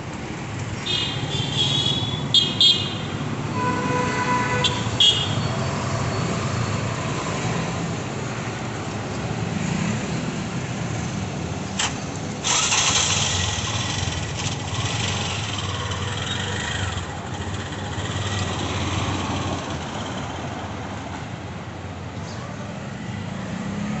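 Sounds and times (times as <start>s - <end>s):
vehicle engines humming: 0.0s - 24.0s.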